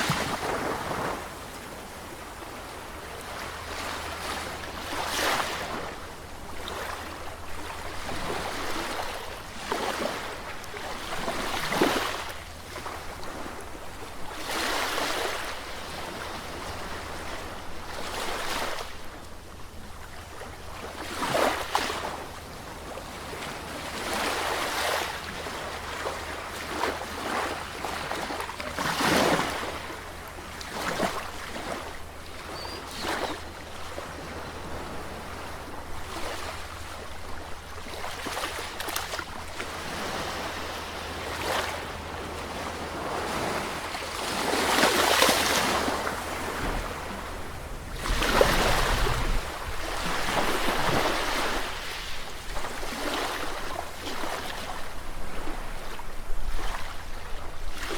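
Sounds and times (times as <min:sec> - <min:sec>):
sea waves breaking: 0:00.0 - 0:13.6, 0:20.9 - 0:57.9.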